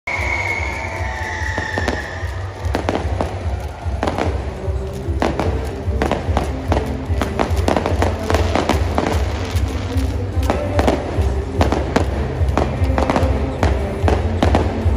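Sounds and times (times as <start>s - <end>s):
fireworks bangs and crackles: 0.1s - 14.9s
music with low pulse: 0.1s - 14.9s.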